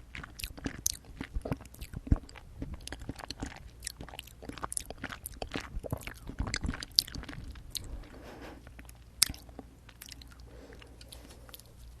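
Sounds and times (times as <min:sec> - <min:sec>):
chewing jelly candy: 0:00.0 - 0:12.0.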